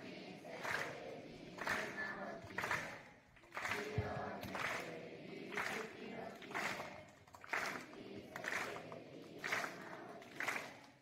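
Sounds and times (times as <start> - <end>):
children chanting in unison: 0.0 - 11.0.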